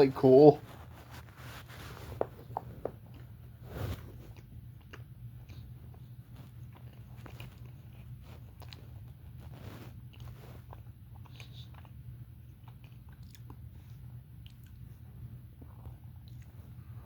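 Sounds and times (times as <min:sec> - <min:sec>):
person chewing food: 0:00.7 - 0:17.0.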